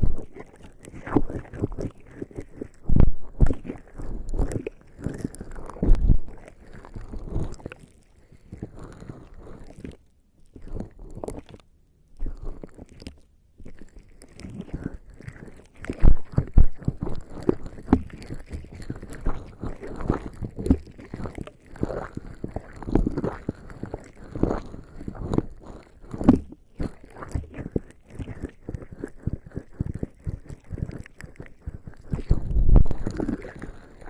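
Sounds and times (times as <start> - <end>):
skin rubbing on microphone: 0.0 - 9.9, 12.2 - 34.0.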